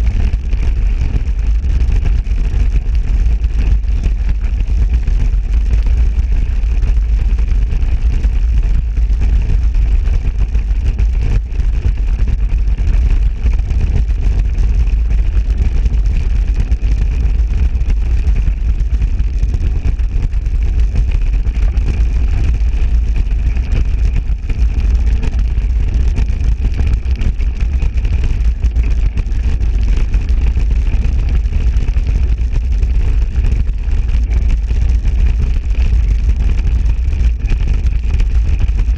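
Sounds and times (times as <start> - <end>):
wind rush and rumble: 0.0 - 38.9.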